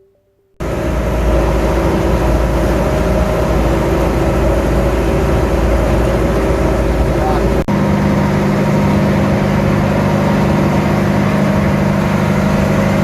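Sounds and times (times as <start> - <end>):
boat engine rumbling: 0.6 - 13.0.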